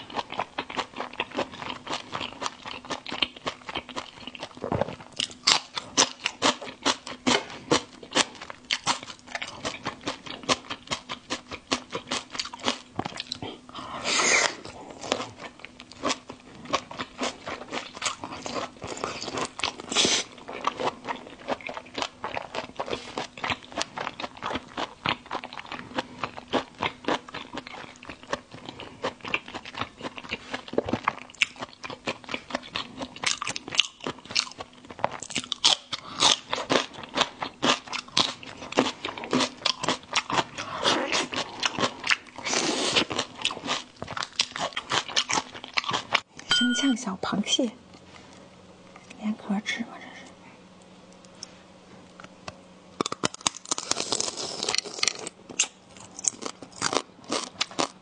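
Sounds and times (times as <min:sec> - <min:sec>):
crunching and chewing prawn: 0:00.0 - 0:46.4, 0:53.0 - 0:58.0.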